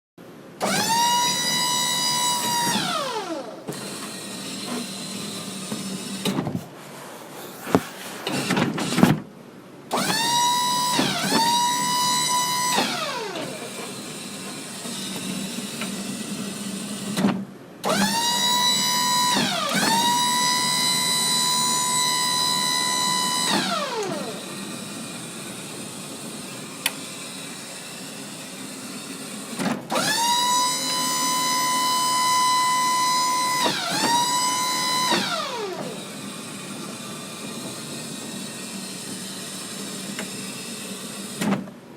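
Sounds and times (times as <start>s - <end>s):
electric motor whining: 0.6s - 6.4s, 9.9s - 15.9s, 17.8s - 29.2s, 29.9s - 41.2s.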